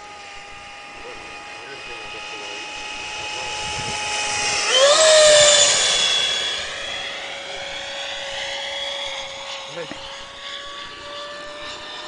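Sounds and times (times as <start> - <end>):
model jet fan whining: 0.0 - 12.0.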